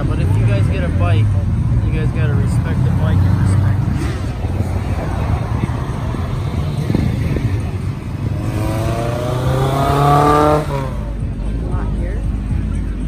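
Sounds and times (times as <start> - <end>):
car engine accelerating: 0.0 - 13.0
road noise: 0.0 - 13.0.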